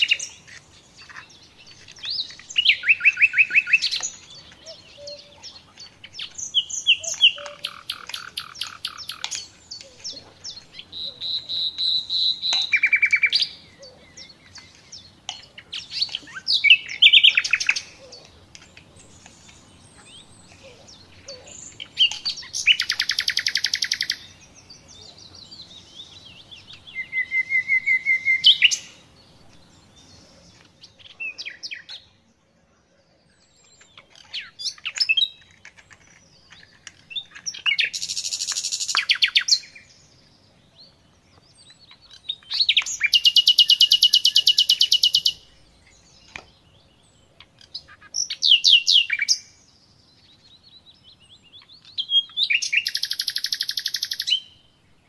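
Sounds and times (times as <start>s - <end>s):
songbird trilling and whistling: 0.0s - 18.3s, 19.0s - 30.2s, 33.4s - 40.0s, 41.4s - 54.6s.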